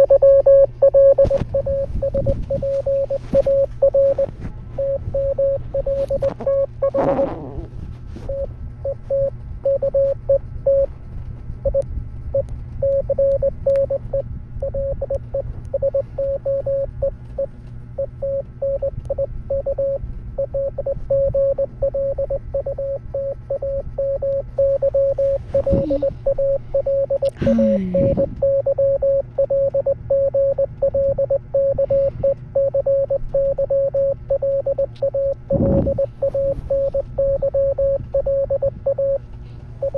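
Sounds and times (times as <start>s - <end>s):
morse code beeps: 0.0s - 7.6s, 8.2s - 10.9s, 11.6s - 39.9s.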